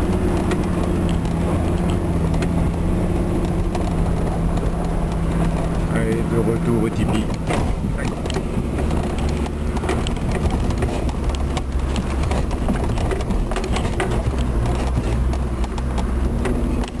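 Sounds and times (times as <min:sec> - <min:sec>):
diesel engine running at low speed: 0:00.0 - 0:17.0
vehicle rattling on gravel: 0:00.0 - 0:17.0.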